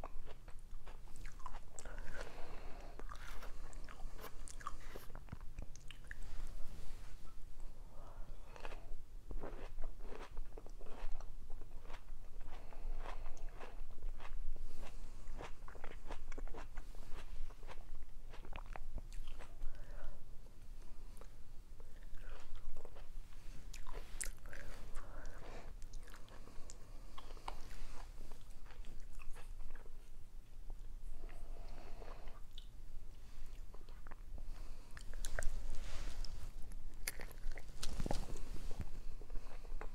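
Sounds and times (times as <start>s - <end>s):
chewing and biting soft food: 0.0s - 6.6s, 8.2s - 20.2s, 21.2s - 31.4s, 32.0s - 39.9s.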